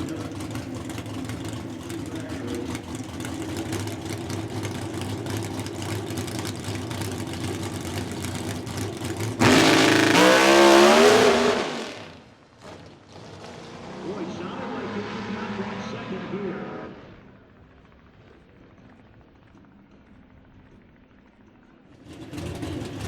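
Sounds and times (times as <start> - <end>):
drag car engine: 0.0 - 23.0.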